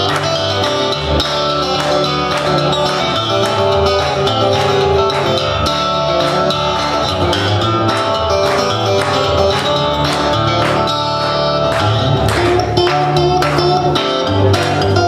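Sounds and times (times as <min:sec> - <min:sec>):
harp guitar plucked notes: 0:00.0 - 0:15.0.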